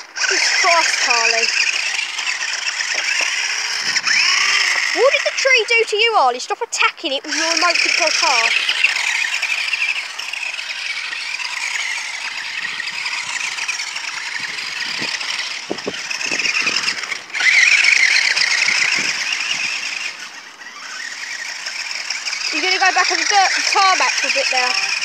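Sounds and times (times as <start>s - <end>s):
remote-control car motor whining: 0.0s - 25.0s.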